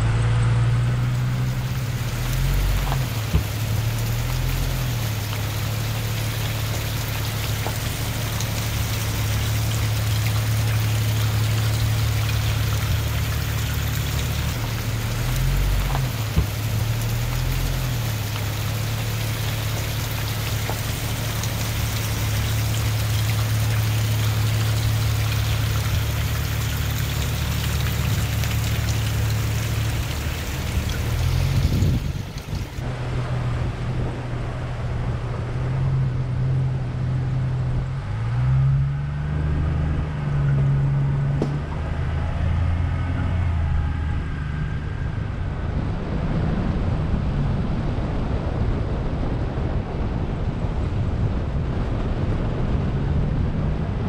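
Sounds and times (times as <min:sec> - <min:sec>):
car engine humming: 0:00.0 - 0:45.4
road noise hiss: 0:00.0 - 0:54.0.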